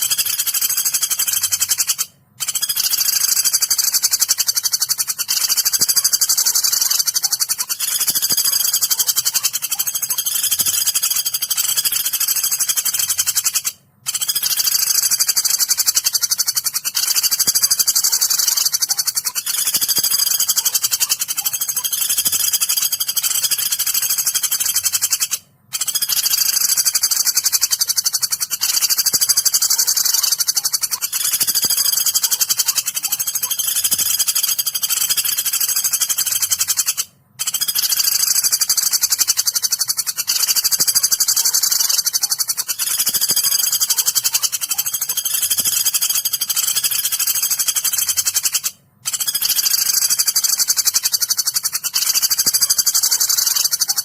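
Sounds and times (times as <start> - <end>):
woodpecker shrill chatter: 0.0 - 54.0.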